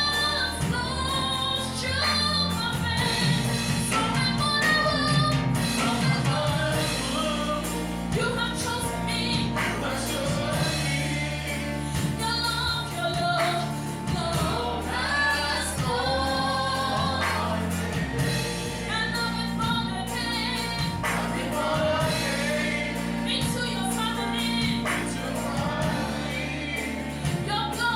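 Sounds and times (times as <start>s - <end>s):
band accompaniment: 0.0s - 27.9s
group of voices singing: 0.0s - 27.9s.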